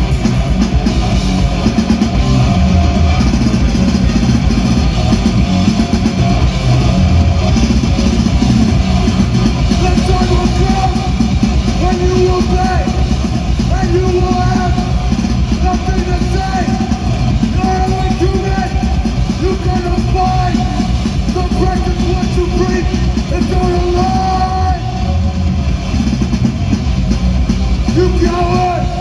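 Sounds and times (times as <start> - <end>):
live band playing heavy rock: 0.0 - 29.0.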